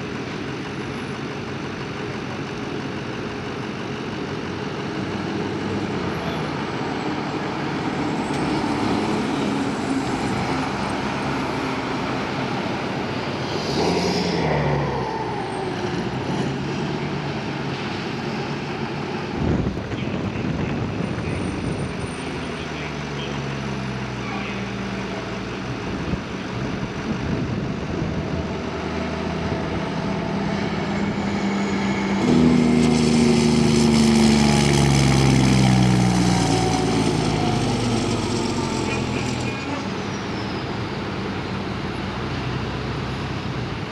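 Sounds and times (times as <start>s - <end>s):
fire truck engines driving by: 0.0s - 43.9s.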